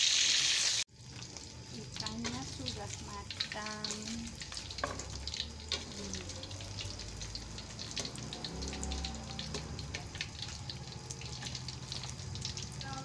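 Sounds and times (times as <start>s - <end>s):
oil crackling and sizzling: 0.0s - 13.0s
metal spatula on wok: 1.9s - 13.0s.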